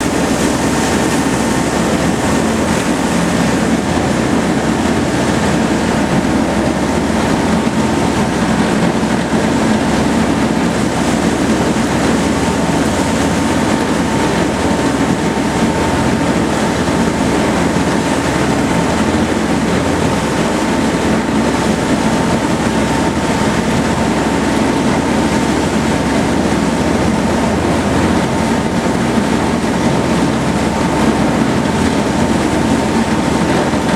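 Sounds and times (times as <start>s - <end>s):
machinery drone: 0.0s - 33.9s.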